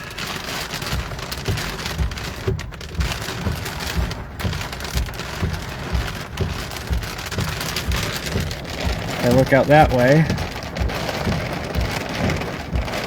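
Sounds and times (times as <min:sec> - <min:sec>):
heavy rain hissing: 0:00.0 - 0:13.0
low thuds: 0:00.0 - 0:13.0.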